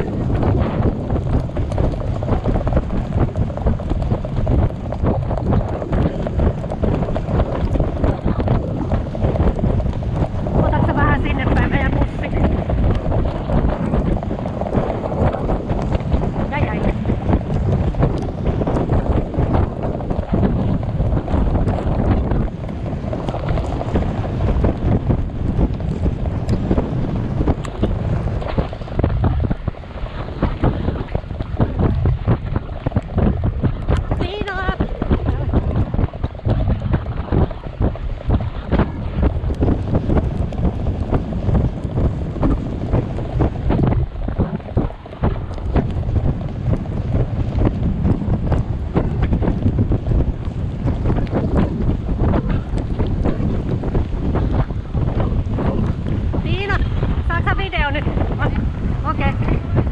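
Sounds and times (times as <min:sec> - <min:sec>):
hoofbeats on sand: 0:00.0 - 0:59.9
wind buffeting microphone: 0:00.0 - 0:59.9.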